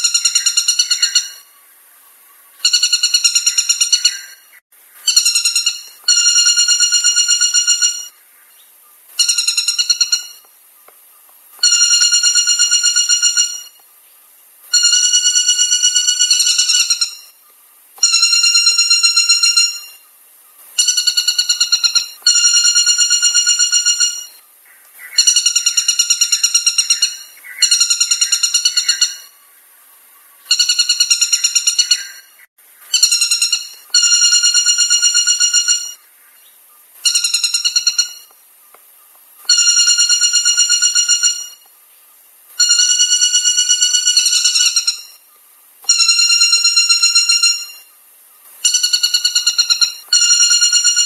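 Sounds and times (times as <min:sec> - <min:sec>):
woodpecker calling trills: 0:00.0 - 0:01.6, 0:02.5 - 0:13.9, 0:14.7 - 0:41.7, 0:42.6 - 0:48.0, 0:48.6 - 0:51.0.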